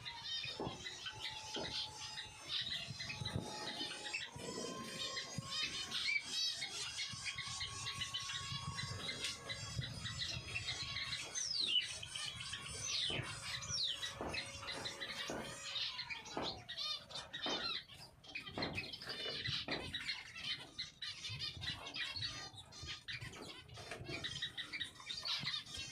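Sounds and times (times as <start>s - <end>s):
finches chirping: 0.0s - 25.9s.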